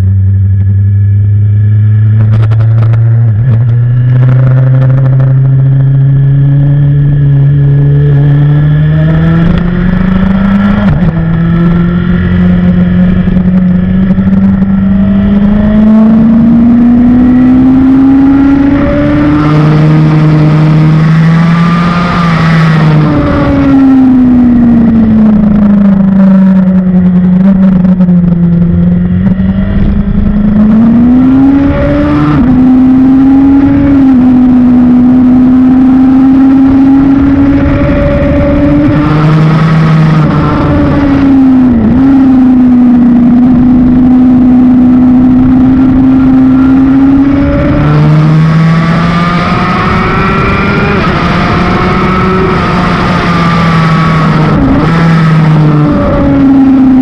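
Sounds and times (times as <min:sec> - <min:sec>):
motorcycle engine revving: 0:00.0 - 0:57.0
wind rush: 0:02.0 - 0:57.0.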